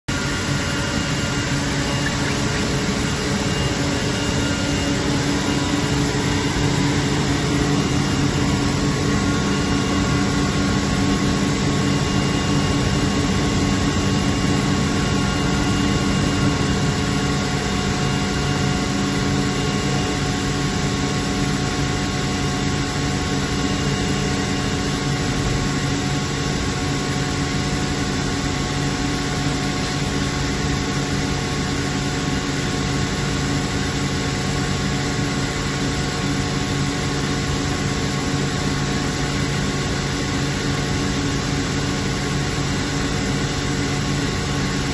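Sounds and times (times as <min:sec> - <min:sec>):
air compressor humming: 0:00.1 - 0:44.9.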